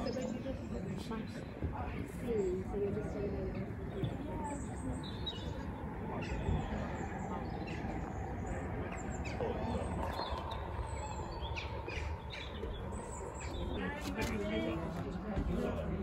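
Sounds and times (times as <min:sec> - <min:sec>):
small birds chirping: 0:00.0 - 0:14.0
wind rumbling on microphone: 0:00.0 - 0:16.0.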